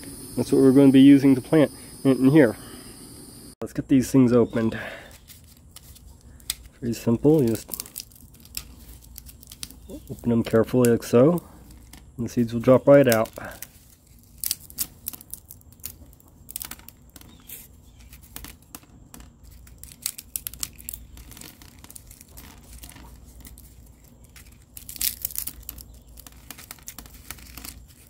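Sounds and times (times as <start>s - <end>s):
seed pod husk crackling and tearing: 4.7s - 28.0s.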